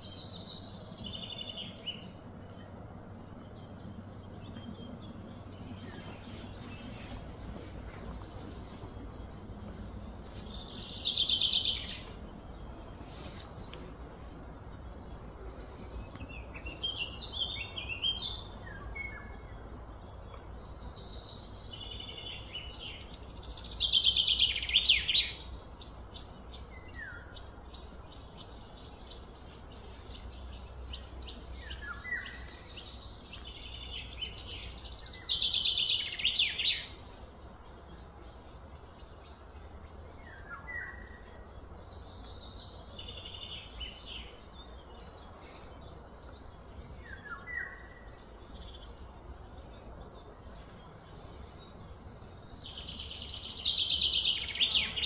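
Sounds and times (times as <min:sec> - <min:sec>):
low background hum: 0:00.0 - 0:55.0
wild birds chirping: 0:00.0 - 0:55.0.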